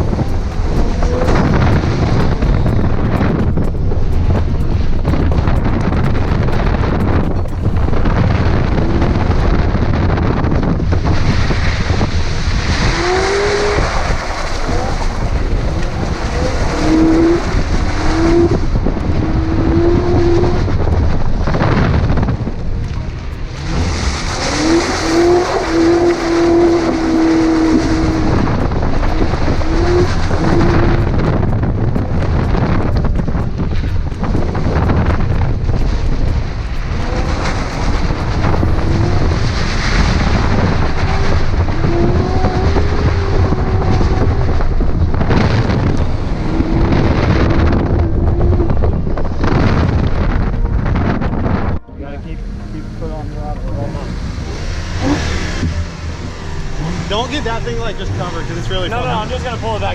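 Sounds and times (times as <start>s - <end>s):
car engine revving: 0.0s - 59.9s
wind buffeting microphone: 0.0s - 59.9s.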